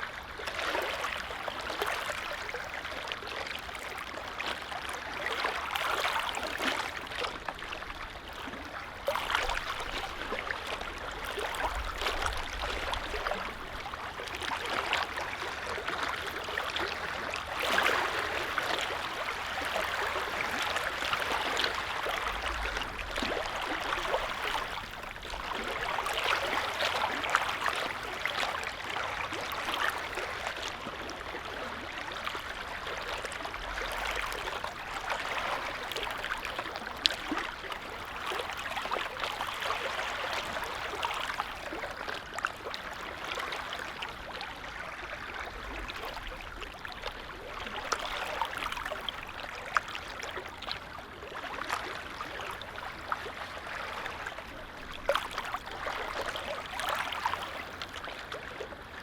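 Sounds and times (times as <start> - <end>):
waves lapping at shore: 0.0 - 59.0.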